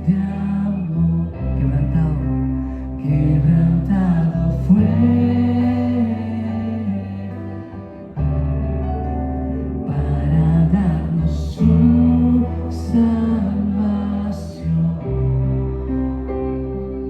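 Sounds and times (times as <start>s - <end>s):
live worship band playing: 0.0s - 17.0s.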